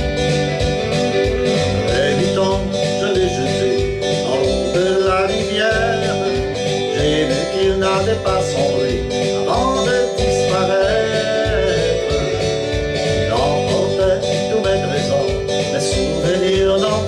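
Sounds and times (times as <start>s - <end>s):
country music with guitar: 0.0s - 17.0s
man singing: 1.5s - 17.0s.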